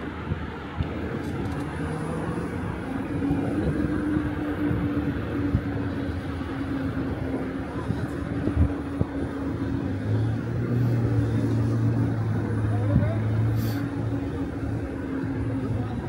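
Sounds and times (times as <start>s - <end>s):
road rumble: 0.0s - 16.0s
wind rushing over microphone: 0.0s - 16.0s.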